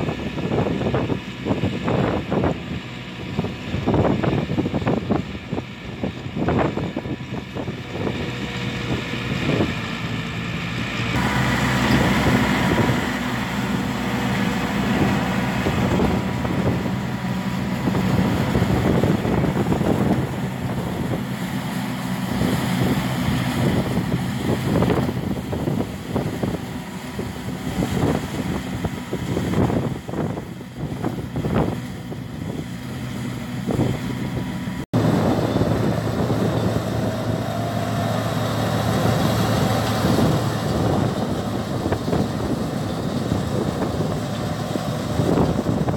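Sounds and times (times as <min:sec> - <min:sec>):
wind on microphone: 0:00.0 - 0:10.2, 0:11.0 - 0:45.9
tractor engine running: 0:00.0 - 0:45.9.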